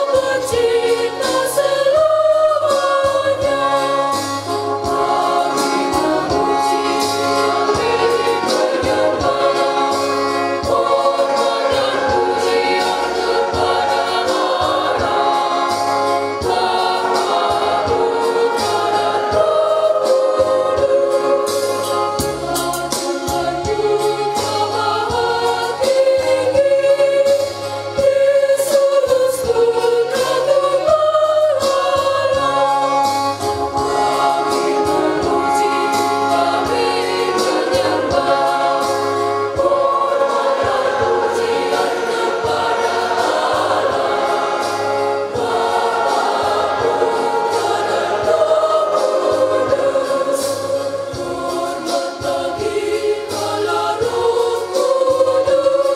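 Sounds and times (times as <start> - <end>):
children's choir singing a hymn: 0.0 - 55.9.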